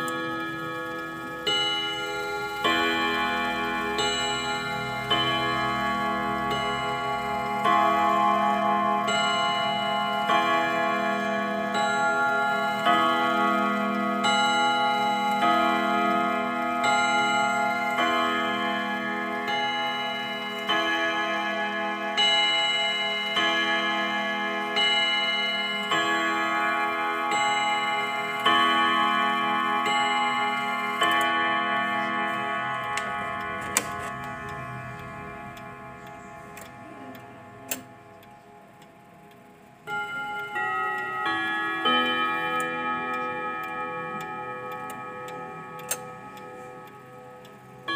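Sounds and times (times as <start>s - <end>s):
clock chime rods ringing: 0.0s - 47.9s.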